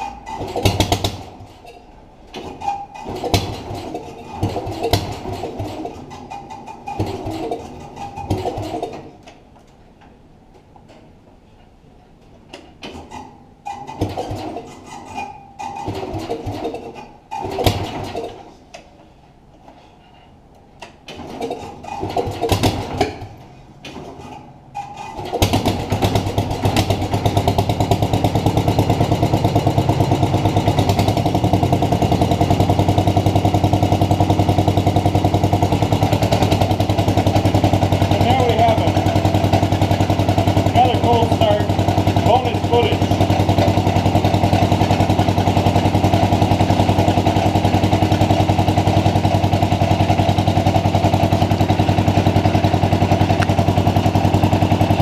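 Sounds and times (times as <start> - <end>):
tractor engine running: 0.0 - 10.6, 12.2 - 55.0
tractor engine cranking and sputtering: 0.0 - 55.0.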